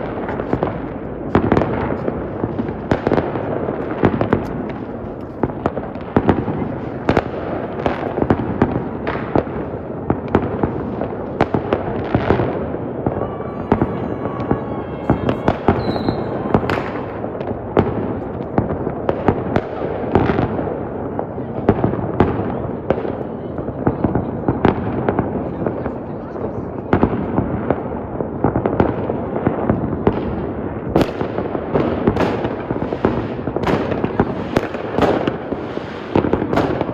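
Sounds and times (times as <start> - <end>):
fireworks bangs and crackling: 0.0 - 36.9
rumble of explosions: 0.0 - 36.9.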